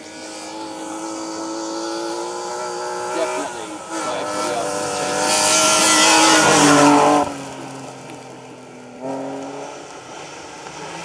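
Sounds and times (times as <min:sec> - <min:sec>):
rally car engine revving: 0:00.0 - 0:11.0
second rally car engine: 0:00.0 - 0:11.0.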